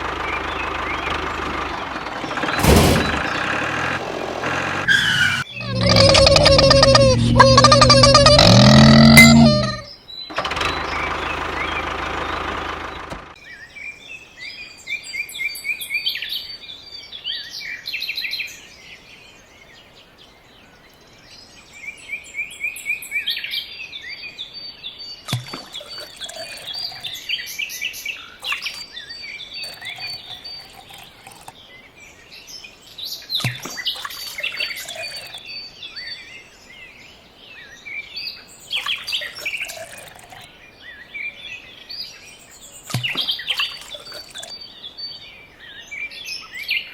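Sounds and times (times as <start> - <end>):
small birds chirping: 0.0 - 12.0, 18.2 - 46.9.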